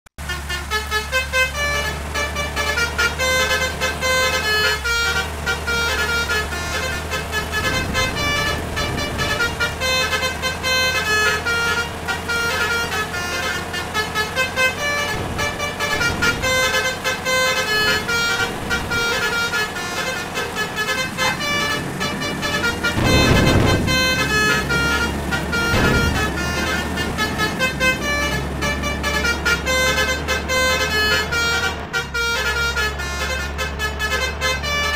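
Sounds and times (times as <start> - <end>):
low engine and road rumble: 0.1 - 34.9
multi-tone air horns playing tunes: 0.2 - 34.9.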